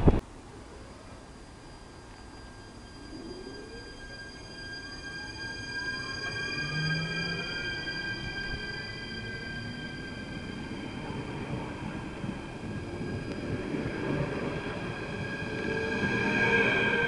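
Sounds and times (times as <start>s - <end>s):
electric train whine: 0.1s - 17.0s
train wheels rumbling: 1.5s - 17.0s.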